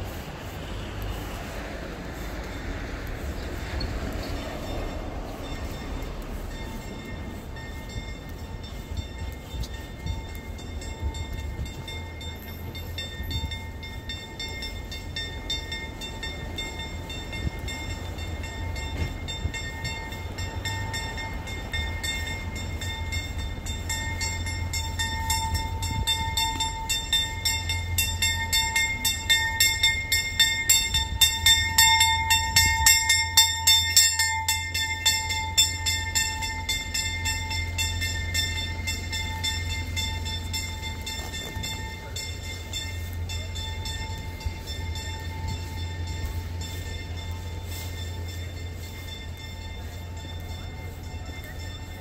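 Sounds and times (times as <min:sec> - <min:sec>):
bells ringing: 0:00.0 - 0:52.0
city traffic rumble: 0:00.0 - 0:52.0.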